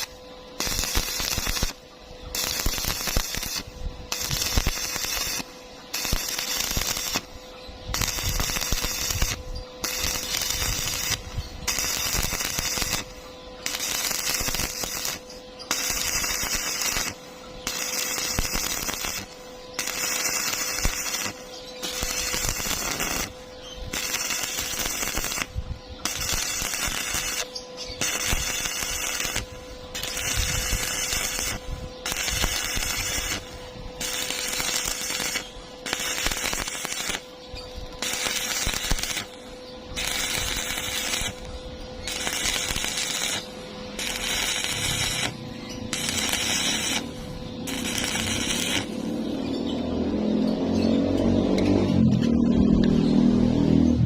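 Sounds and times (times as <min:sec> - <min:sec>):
welding arc crackling: 0:00.0 - 0:54.0.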